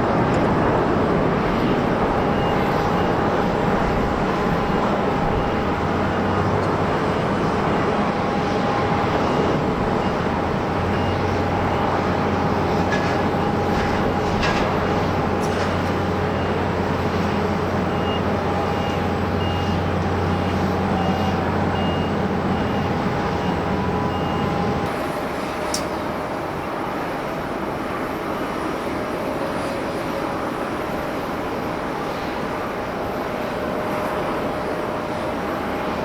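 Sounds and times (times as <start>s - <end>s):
jet engine noise: 0.0s - 36.0s.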